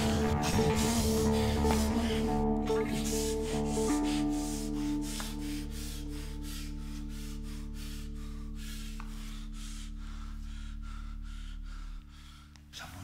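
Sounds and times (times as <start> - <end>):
rhythmic scraping swishing: 0.0 - 11.8
sustained low chord drone: 0.0 - 12.4.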